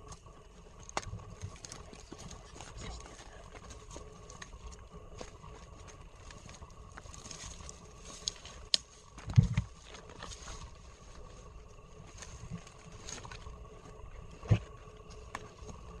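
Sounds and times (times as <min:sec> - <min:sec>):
footsteps through woods: 0:01.5 - 0:16.0.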